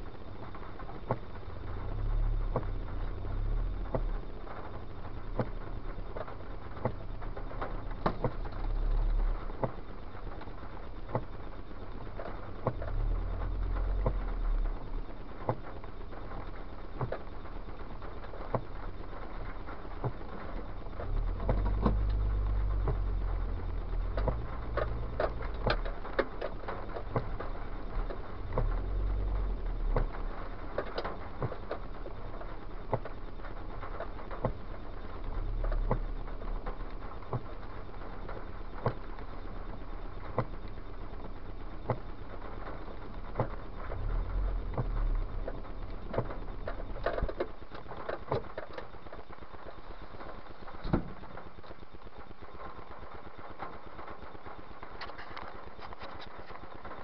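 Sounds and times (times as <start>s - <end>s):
low road rumble: 0.0s - 57.0s
rain ticking on car: 0.0s - 57.0s.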